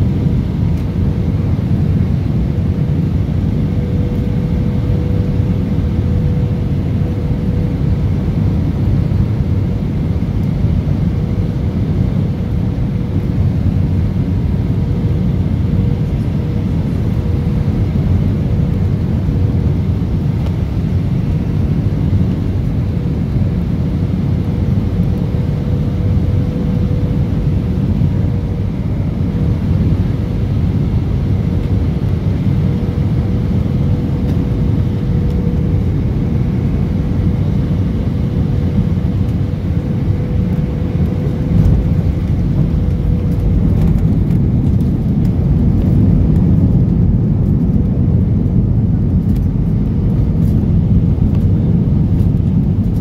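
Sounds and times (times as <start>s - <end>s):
airliner cabin engine rumble: 0.0s - 53.0s
steady hum: 0.0s - 53.0s.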